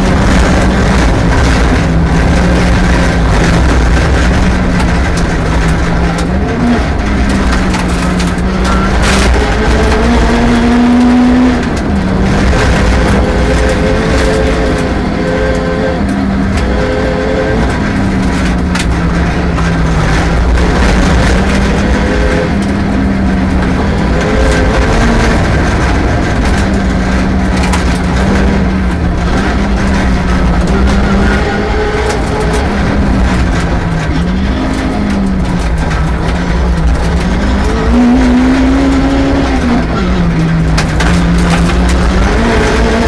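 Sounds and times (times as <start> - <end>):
rally car engine revving: 0.0 - 43.0
road noise rushing: 0.0 - 43.0.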